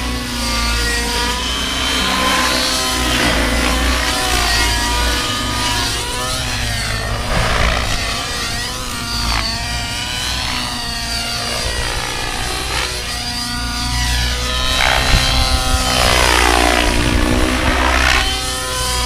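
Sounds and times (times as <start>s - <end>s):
model helicopter engine whine: 0.0s - 19.0s.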